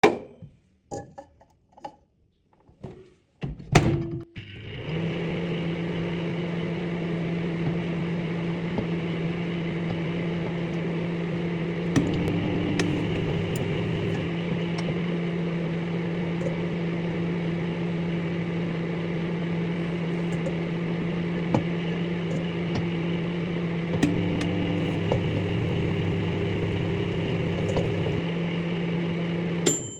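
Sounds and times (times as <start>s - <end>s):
microwave oven humming: 4.3s - 29.9s.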